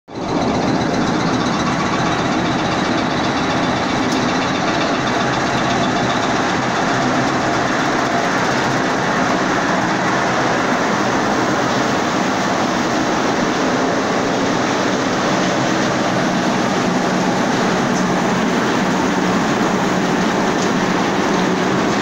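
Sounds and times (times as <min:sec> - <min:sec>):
grading machine mechanical din: 0:00.1 - 0:22.0.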